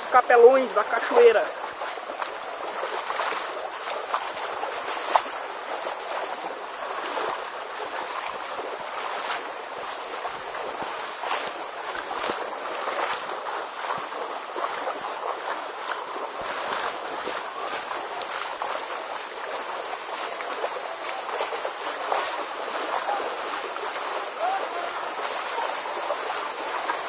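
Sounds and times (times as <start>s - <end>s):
waterfall pouring: 0.0s - 27.0s.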